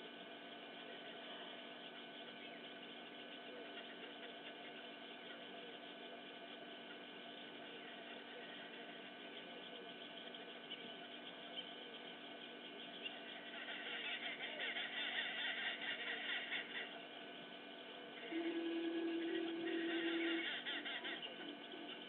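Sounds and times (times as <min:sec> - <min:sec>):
low hum: 0:00.0 - 0:22.0
birds chirping: 0:00.5 - 0:22.0.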